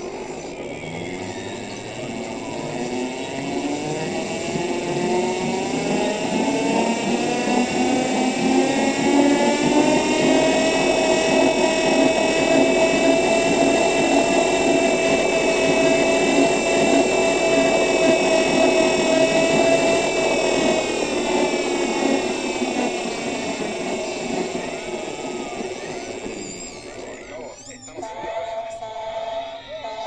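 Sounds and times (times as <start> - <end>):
electric motor whining: 0.0 - 28.1
rumbling noise: 0.7 - 27.4.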